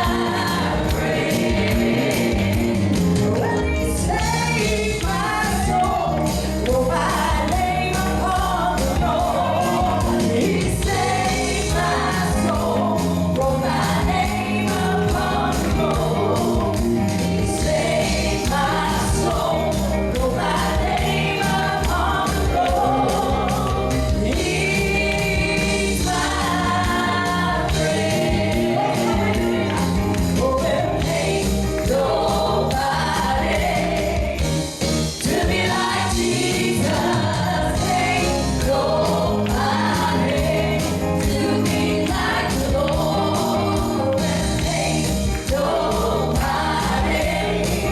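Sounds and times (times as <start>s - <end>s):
band with steady beat: 0.0s - 47.9s
choir and congregation singing: 0.0s - 47.9s.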